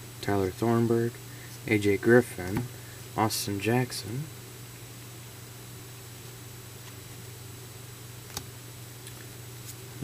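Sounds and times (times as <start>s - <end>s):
low hum with faint hiss: 0.0s - 10.0s.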